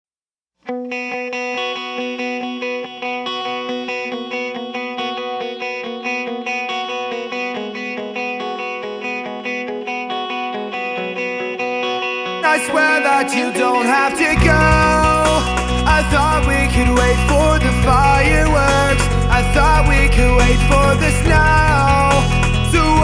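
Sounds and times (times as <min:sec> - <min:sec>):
rock guitar picking notes: 0:00.7 - 0:23.0.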